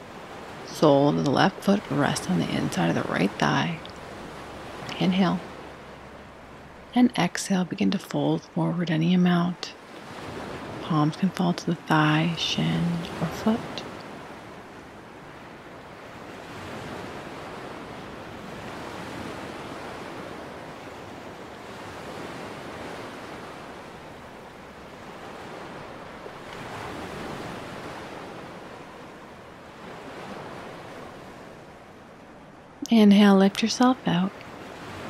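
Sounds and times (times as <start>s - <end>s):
small waves washing onto beach: 0.0s - 7.0s, 9.4s - 32.8s, 33.8s - 35.0s.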